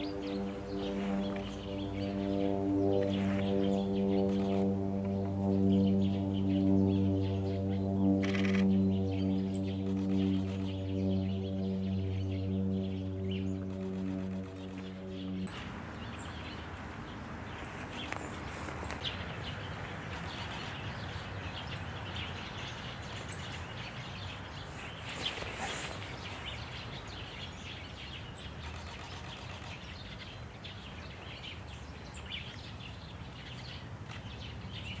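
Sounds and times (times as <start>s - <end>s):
woodland background noise: 0.0s - 35.0s.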